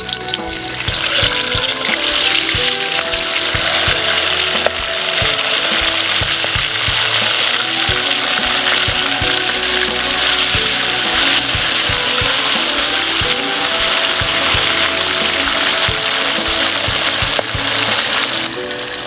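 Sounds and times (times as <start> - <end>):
fish deep-frying in hot oil: 0.0 - 19.0.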